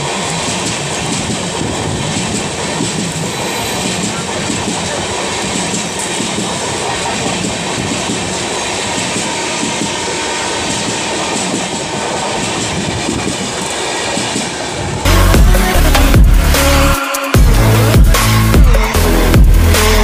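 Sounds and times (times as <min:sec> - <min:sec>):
passing train rushing by: 0:00.0 - 0:20.0.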